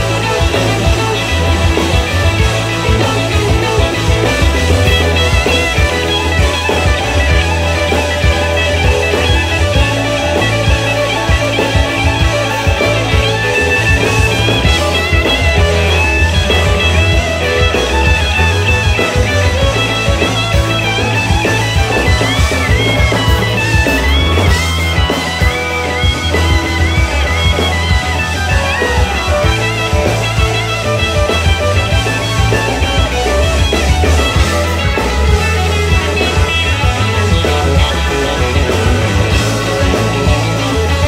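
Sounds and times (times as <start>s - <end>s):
blues band playing: 0.0s - 41.0s
lead guitar slides and bends: 0.0s - 41.0s.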